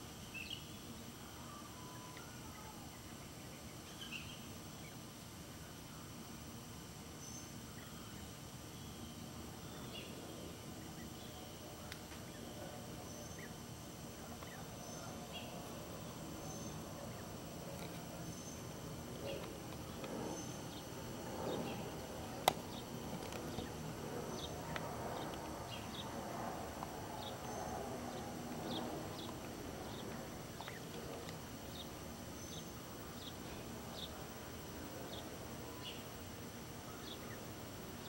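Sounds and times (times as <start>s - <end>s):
faint high hum: 0.0s - 38.0s.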